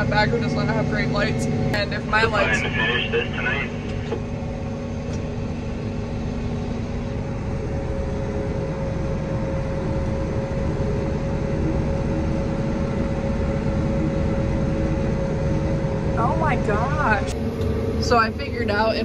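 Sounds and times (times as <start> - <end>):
machinery whine: 0.0 - 19.0
tractor engine drone: 0.0 - 19.0.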